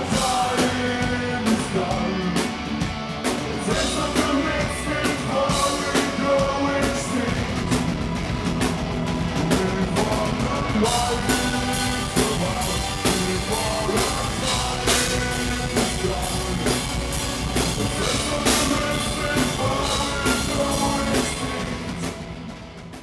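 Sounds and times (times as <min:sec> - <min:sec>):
singing voice: 0:00.0 - 0:08.2, 0:09.2 - 0:22.5
pounding drum kit: 0:00.0 - 0:23.0
rock music: 0:00.0 - 0:23.0
sustained guitar: 0:00.0 - 0:23.0.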